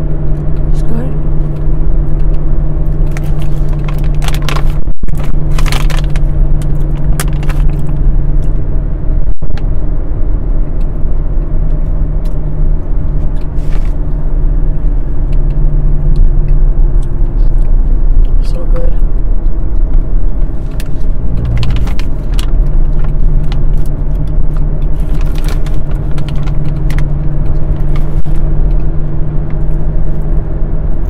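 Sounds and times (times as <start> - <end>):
vehicle engine rumble and hum: 0.0 - 31.0.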